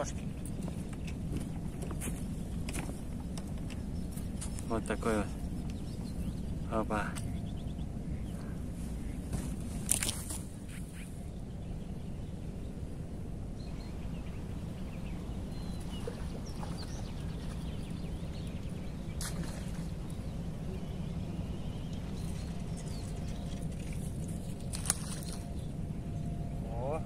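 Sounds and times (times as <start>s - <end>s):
low outdoor rumble: 0.0s - 27.0s
small birds chirping: 0.0s - 27.0s.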